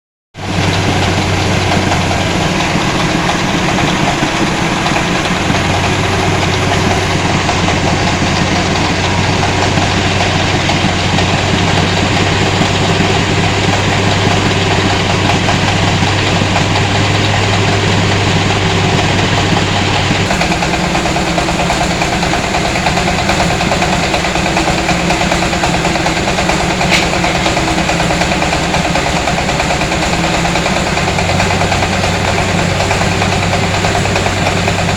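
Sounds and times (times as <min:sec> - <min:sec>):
machine engine clattering: 0:00.4 - 0:34.9.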